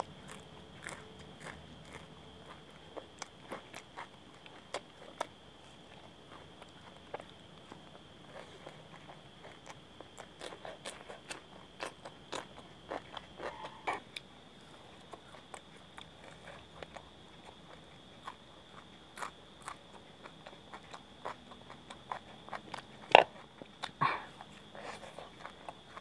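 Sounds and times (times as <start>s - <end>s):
crunchy food being chewed: 0.0s - 26.0s.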